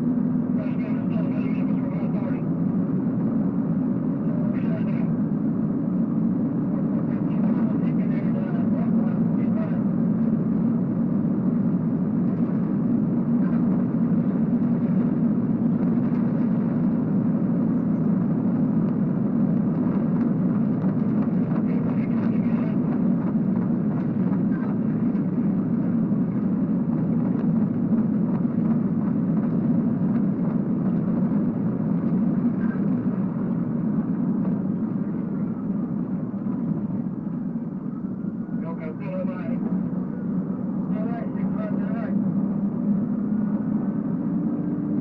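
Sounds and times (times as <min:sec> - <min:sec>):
road and wind noise inside car: 0:00.0 - 0:45.0.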